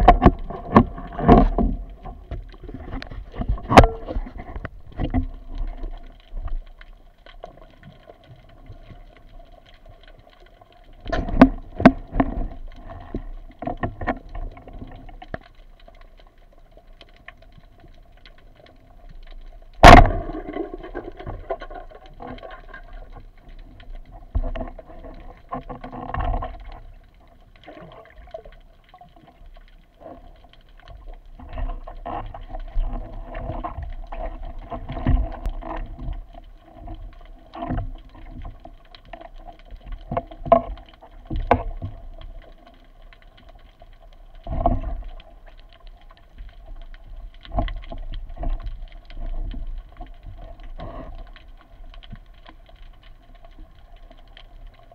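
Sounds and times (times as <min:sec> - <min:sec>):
underwater knocks and scrapes: 0:00.0 - 0:54.9.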